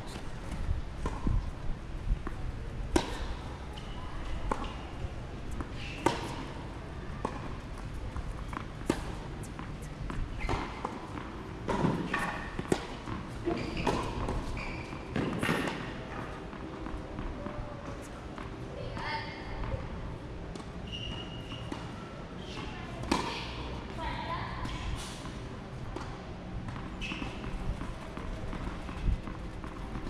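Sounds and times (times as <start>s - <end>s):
tennis balls hit and bouncing: 0.1s - 1.5s, 2.2s - 19.8s, 20.4s - 30.0s.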